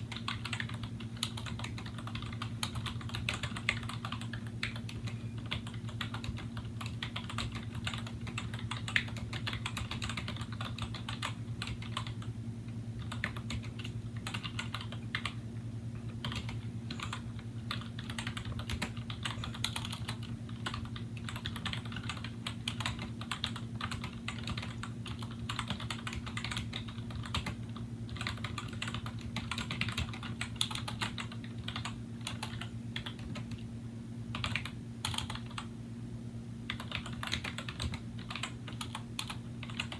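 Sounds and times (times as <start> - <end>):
steady low hum: 0.0 - 39.9
keyboard typing clicks: 0.1 - 12.3, 13.0 - 15.4, 16.0 - 33.6, 34.3 - 35.7, 36.7 - 39.9.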